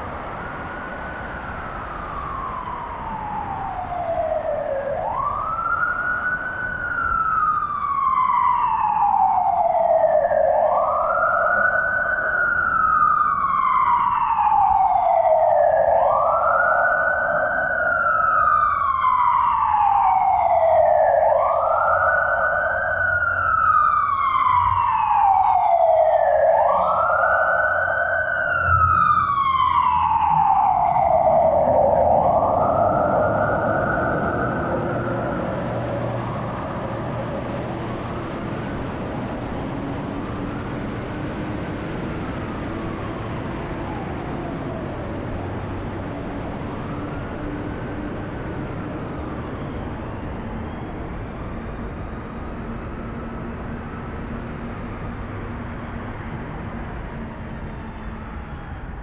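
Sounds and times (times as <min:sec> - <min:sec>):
emergency vehicle siren wailing: 0:00.0 - 0:59.0.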